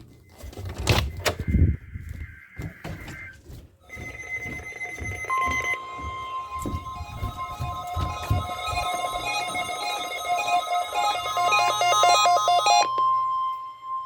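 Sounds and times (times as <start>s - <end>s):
steady alert tones: 1.4s - 12.8s.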